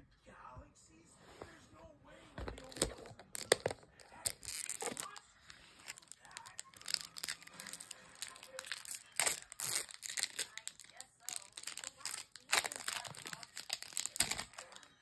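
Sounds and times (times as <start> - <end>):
foil wrapper crinkling and tearing: 2.4 - 15.0.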